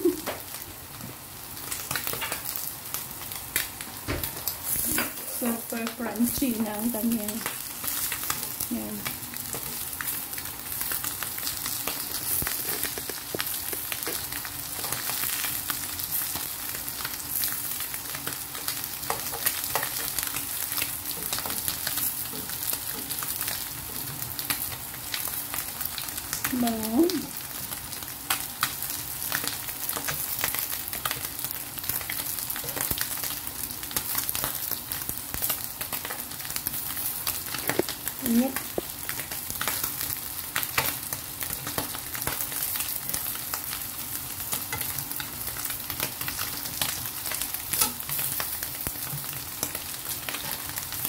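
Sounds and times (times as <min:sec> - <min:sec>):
fish sizzling in hot oil: 0:00.0 - 0:51.0.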